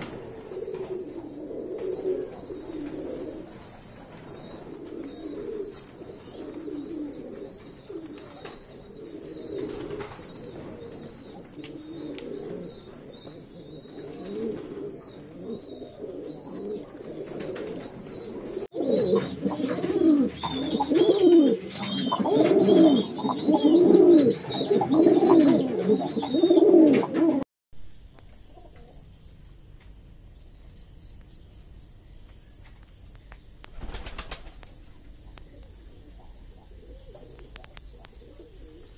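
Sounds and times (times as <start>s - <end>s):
pigeons cooing: 0.0s - 27.5s, 33.7s - 38.9s
small birds chirping: 0.0s - 38.9s.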